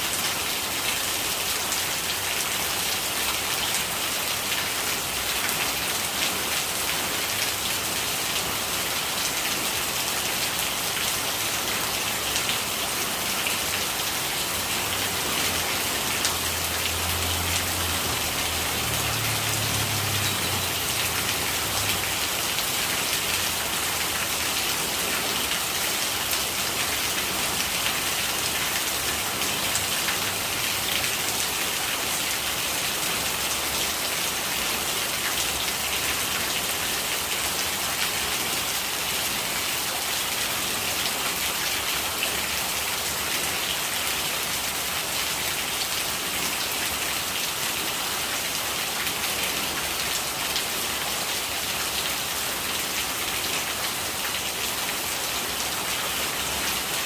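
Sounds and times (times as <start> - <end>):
rainwater gurgling: 0.0 - 57.0
steady rain falling: 0.0 - 57.0.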